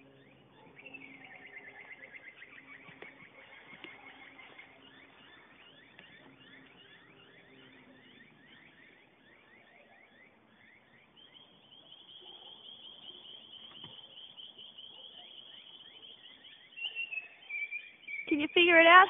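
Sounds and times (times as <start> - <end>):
faint bird chirping: 0.0 - 19.0
high bird trill: 0.0 - 19.0.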